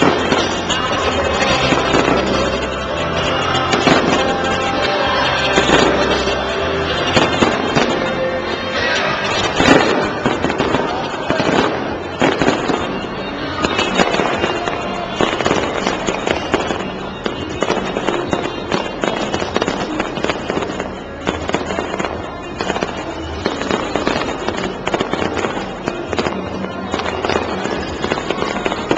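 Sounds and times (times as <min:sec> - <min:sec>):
fireworks bursting and crackling: 0:00.0 - 0:28.9
music: 0:00.0 - 0:28.9.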